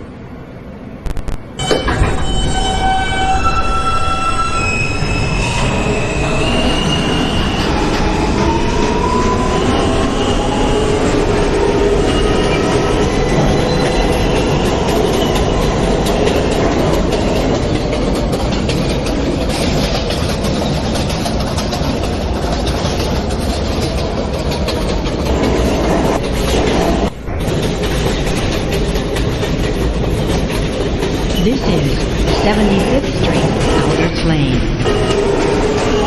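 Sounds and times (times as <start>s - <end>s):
train wheels running on track: 0.0s - 36.0s
train traction motors whining: 1.6s - 36.0s.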